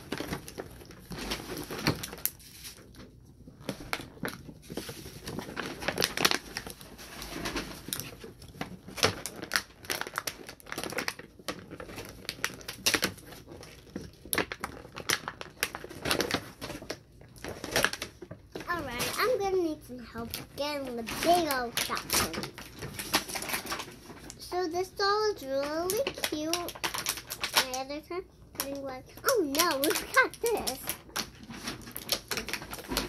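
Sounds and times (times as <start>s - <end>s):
plastic packaging crinkling: 0.0s - 33.0s.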